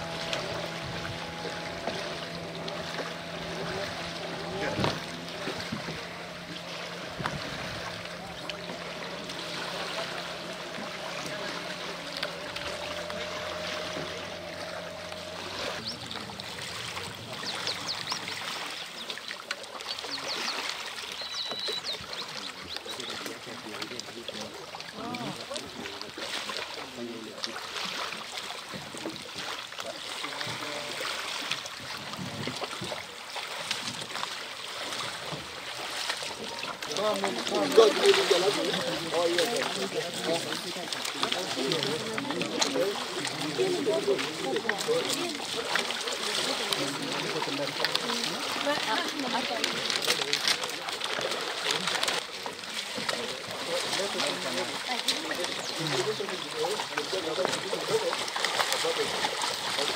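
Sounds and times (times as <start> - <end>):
faint voices: 0.0 - 18.7, 19.6 - 27.7, 35.3 - 59.9
lake water lapping: 0.0 - 59.9
outboard motor droning: 0.0 - 59.9
wind: 0.0 - 59.9.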